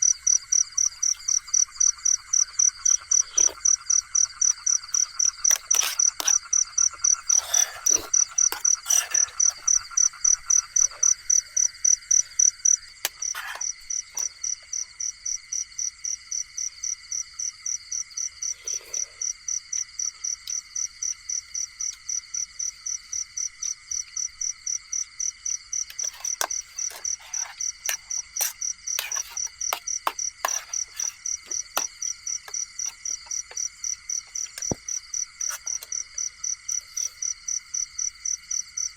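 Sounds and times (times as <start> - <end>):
frogs: 0.0 - 38.9
shrill pulsing insect call: 0.0 - 38.9.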